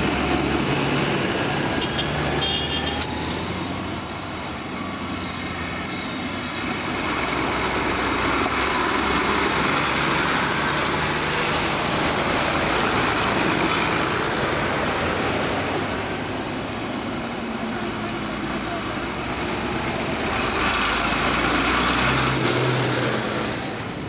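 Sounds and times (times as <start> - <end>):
tractor diesel engine passing: 3.1 - 24.0.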